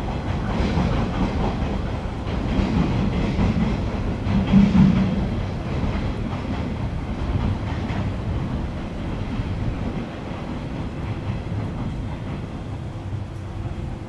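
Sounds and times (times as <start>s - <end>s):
train wheel knocks: 0.0s - 12.6s
electric train rumbling: 0.0s - 14.0s.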